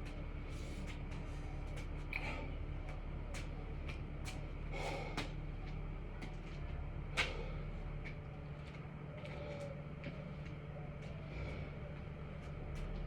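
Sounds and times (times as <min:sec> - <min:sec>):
steady low hum: 0:00.0 - 0:13.0
hard breaths: 0:00.4 - 0:06.2, 0:07.0 - 0:13.0.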